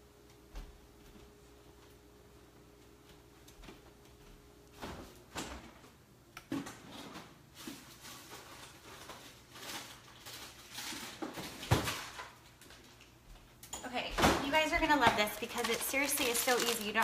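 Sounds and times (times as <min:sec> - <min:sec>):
faint kitchen knocks and rustles: 0:03.0 - 0:16.7.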